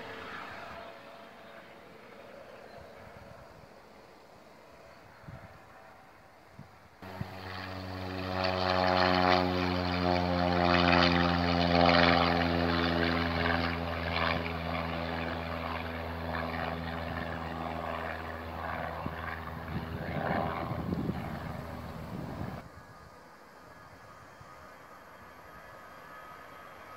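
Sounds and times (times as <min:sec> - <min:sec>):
distant jet engines roaring: 0:00.0 - 0:26.9.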